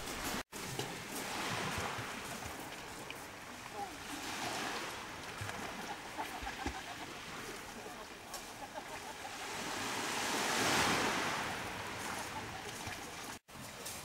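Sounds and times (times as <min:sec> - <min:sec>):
small sea waves washing: 0:00.0 - 0:14.0.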